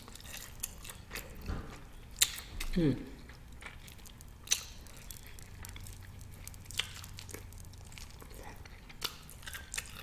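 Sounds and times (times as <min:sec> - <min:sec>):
chewing: 0:00.0 - 0:10.0.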